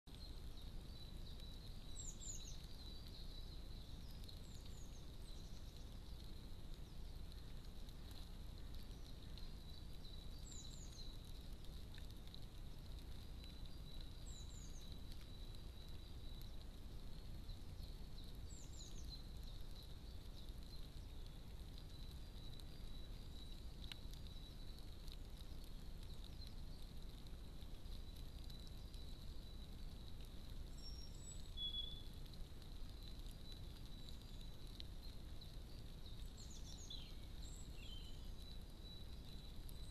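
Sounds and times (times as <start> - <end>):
small bird chirping: 0.0 - 39.9
faint background hiss: 0.1 - 39.9.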